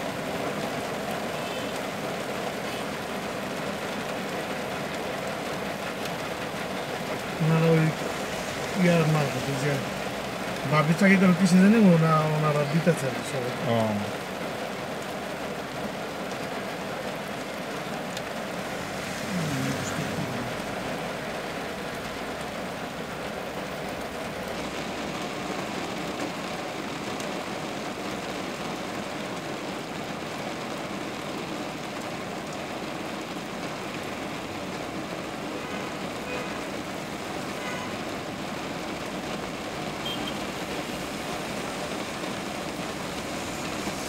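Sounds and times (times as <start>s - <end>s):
heavy rain hiss: 0.0s - 44.0s
traffic noise: 0.0s - 44.0s.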